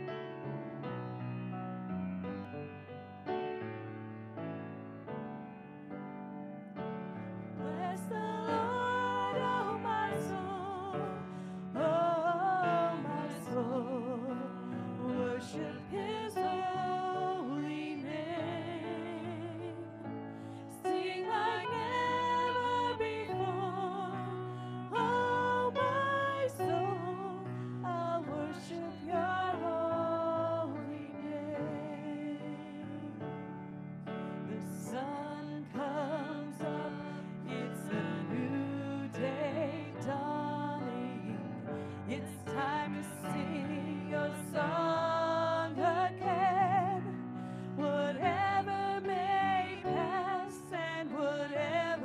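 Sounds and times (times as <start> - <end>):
women singing worship song: 7.5 - 33.2, 34.2 - 52.0.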